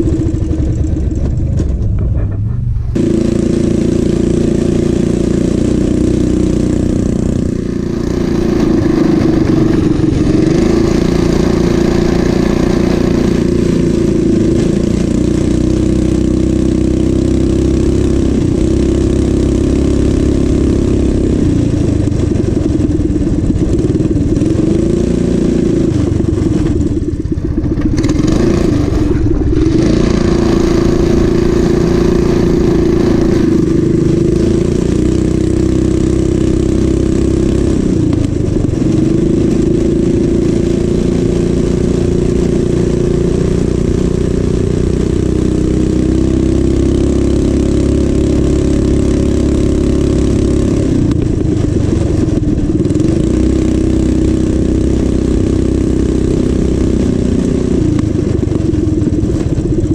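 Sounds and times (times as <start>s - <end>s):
mini bike engine revving: 0.0s - 1.8s, 3.0s - 59.9s.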